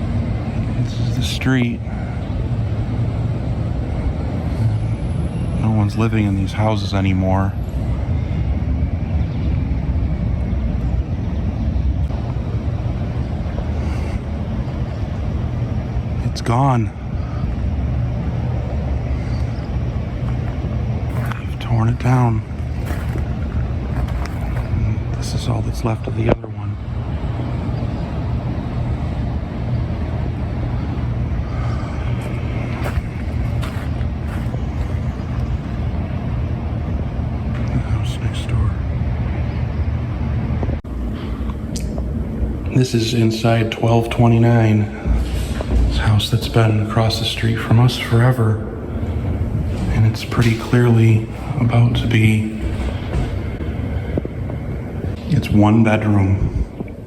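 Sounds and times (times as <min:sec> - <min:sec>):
low outdoor rumble: 0:00.0 - 0:57.0.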